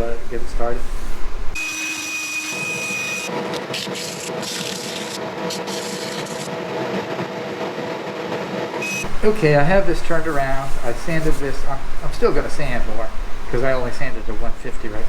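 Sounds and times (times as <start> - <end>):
sanding disc rubbing hiss: 0.0 - 6.9, 8.8 - 15.0
lathe machine hum: 0.0 - 15.0.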